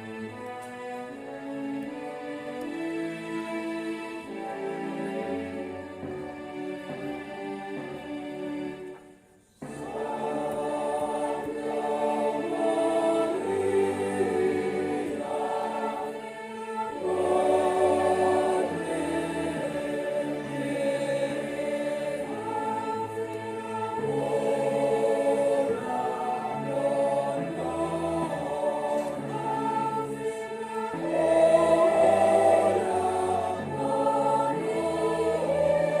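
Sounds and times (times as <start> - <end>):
choir singing a hymn: 0.0 - 36.0.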